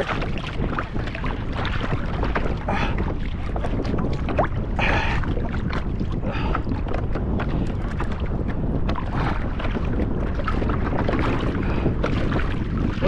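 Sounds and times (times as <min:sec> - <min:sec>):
water sloshing against hull: 0:00.0 - 0:13.0
wind buffeting microphone: 0:00.0 - 0:13.0.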